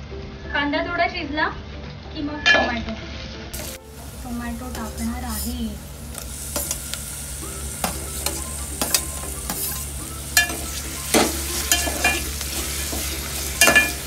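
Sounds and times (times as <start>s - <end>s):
oil sizzling in pot: 1.7s - 14.0s.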